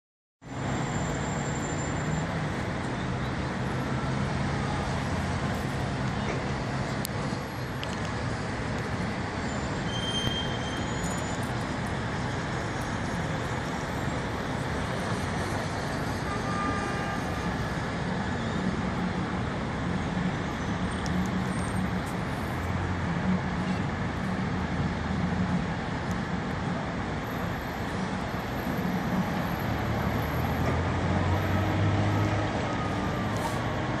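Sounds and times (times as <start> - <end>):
traffic noise: 0.4 - 34.0.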